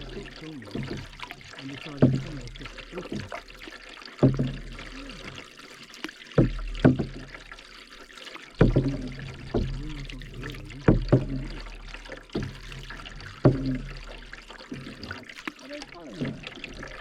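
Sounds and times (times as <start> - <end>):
paddle knocking on canoe: 0.0 - 17.0
water trickling and swirling: 0.0 - 17.0.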